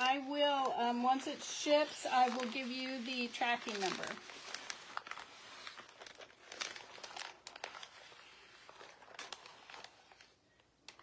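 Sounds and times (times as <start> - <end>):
newspaper crinkling: 0.0 - 11.0.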